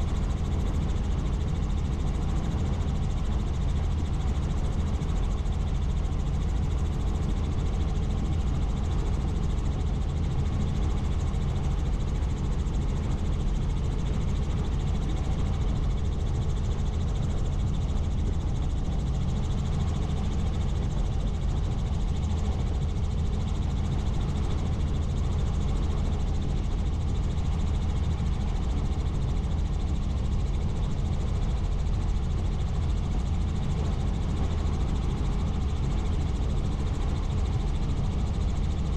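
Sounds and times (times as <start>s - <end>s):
helicopter drone: 0.0s - 38.9s.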